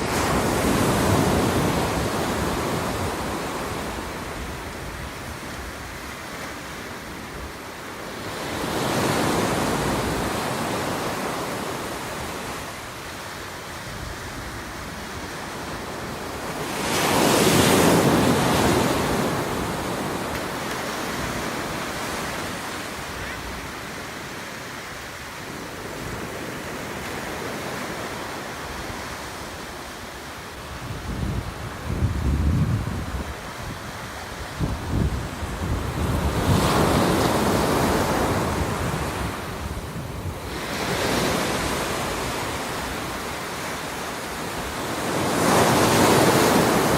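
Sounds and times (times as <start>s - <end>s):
ocean waves breaking: 0.0s - 46.9s.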